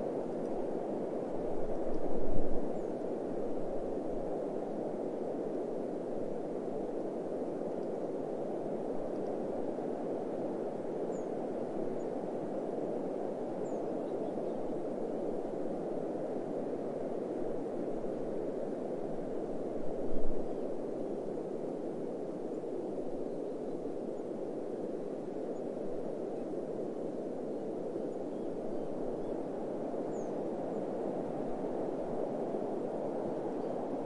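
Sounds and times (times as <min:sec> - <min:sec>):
steady wind blowing: 0:00.0 - 0:34.0.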